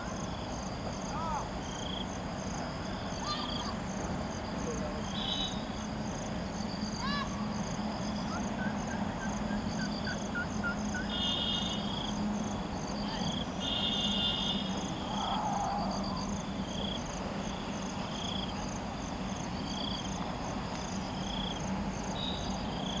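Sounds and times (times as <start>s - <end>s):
insects chirping: 0.0s - 23.0s.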